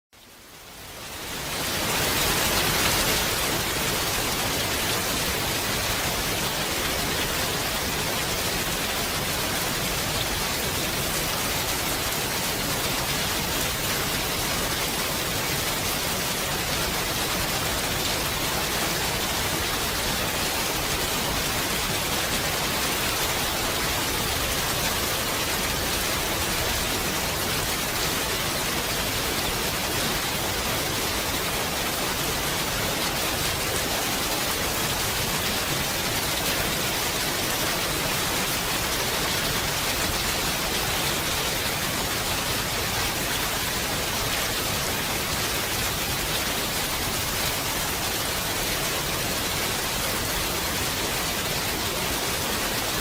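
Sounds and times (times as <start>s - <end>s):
steady rain falling: 0.2s - 53.0s.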